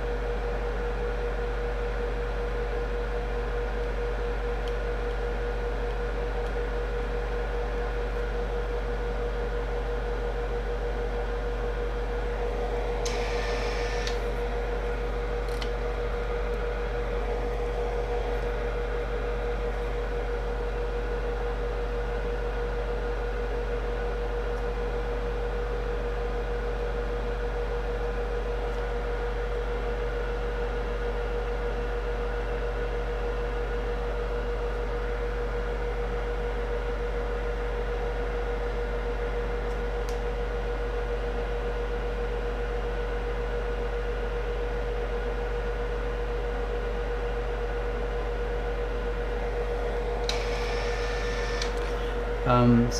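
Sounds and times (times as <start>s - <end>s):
electrical hum with steady tone: 0.0s - 52.9s.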